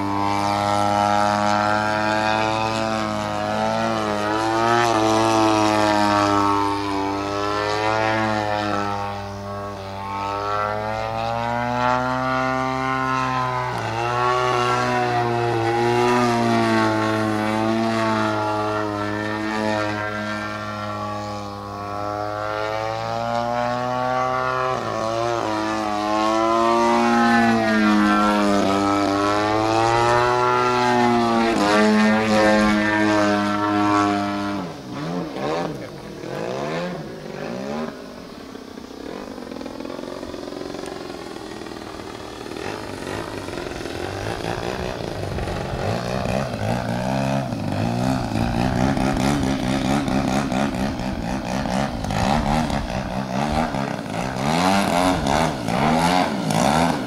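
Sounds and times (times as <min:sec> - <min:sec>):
model plane engine and propeller: 0:00.0 - 0:57.0.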